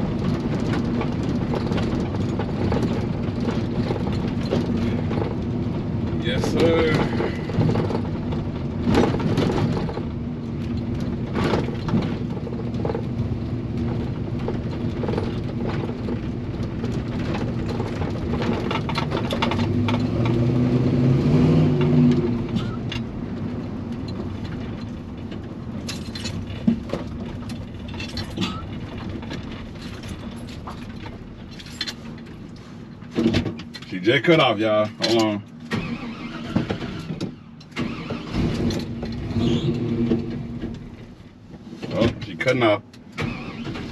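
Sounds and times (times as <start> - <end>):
knocks and rattles: 0.0 - 43.9.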